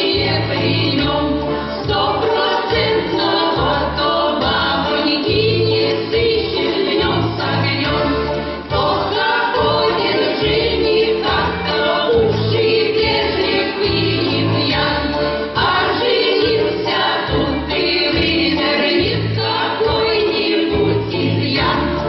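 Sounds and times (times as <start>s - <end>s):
choir singing: 0.0s - 22.0s
instrumental accompaniment: 0.0s - 22.0s.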